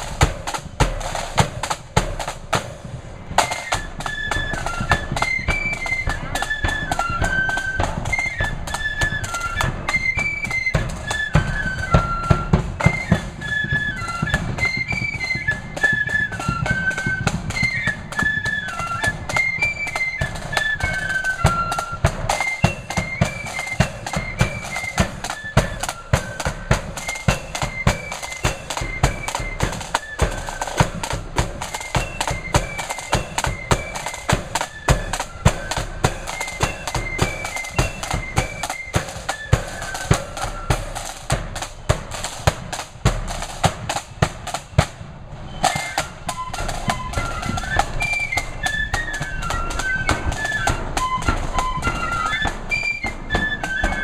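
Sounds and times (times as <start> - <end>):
flutes playing in unison: 0.0 - 54.0
snare drum rolls: 0.0 - 54.0.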